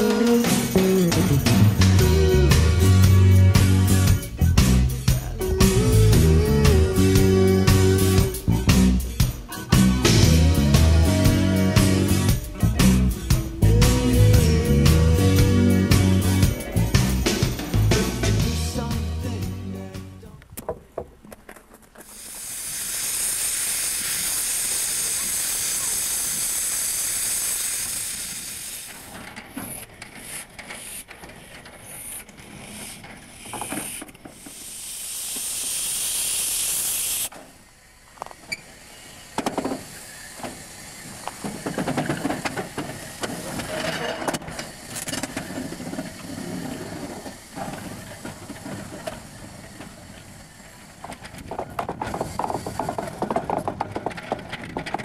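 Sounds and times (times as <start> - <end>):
steam hissing from locomotive: 0.0 - 18.4, 22.0 - 54.1.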